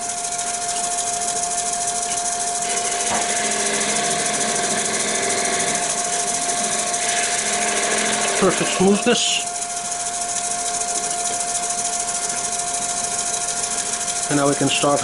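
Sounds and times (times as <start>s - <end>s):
chisel smoothing spinning wood: 0.0s - 15.0s
wood lathe whining: 0.0s - 15.0s.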